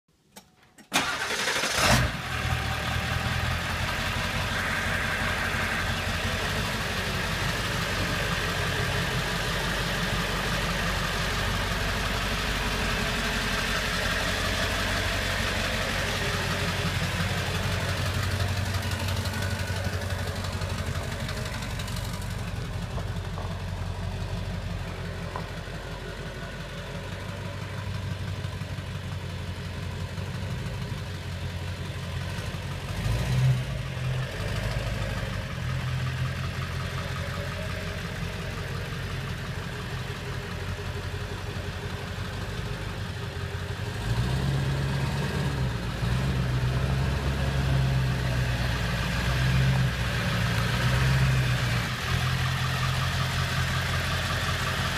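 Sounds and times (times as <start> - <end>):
diesel engine idling: 0.9 - 54.9.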